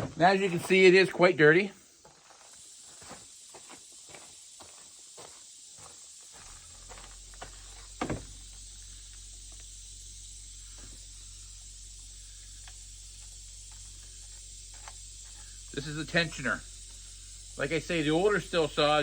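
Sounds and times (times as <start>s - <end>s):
steady low hum: 1.7s - 19.0s.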